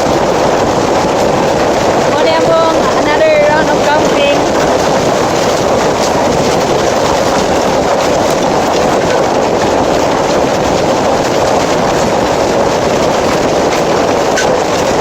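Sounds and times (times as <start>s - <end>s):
hailstones pelting down: 0.0s - 15.0s.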